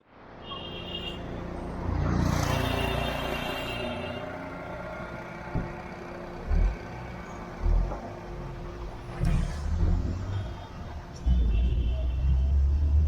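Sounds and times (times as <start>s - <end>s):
engine and tyre rumble: 1.2s - 13.0s.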